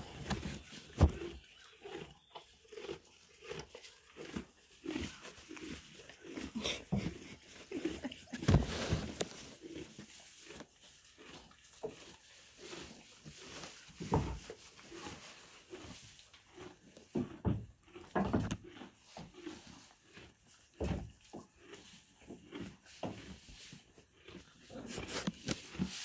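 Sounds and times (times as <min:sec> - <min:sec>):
donkeys munching hay: 0:00.0 - 0:26.0.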